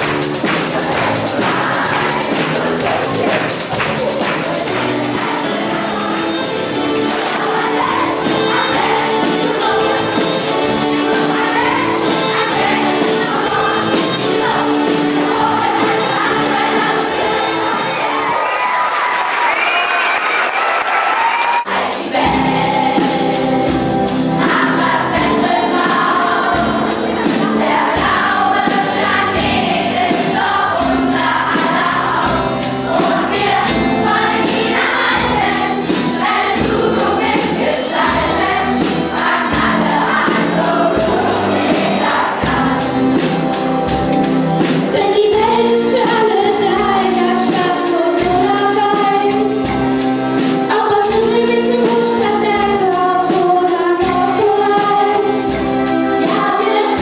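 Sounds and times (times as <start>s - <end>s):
backing track with steady beat: 0.0s - 18.4s, 21.6s - 57.0s
children's choir singing pop song: 0.0s - 57.0s.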